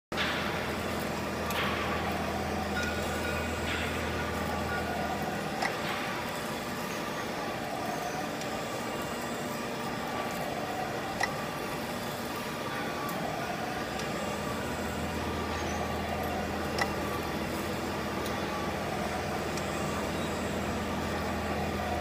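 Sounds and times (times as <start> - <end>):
pipe cutting machine running: 0.1 - 22.0.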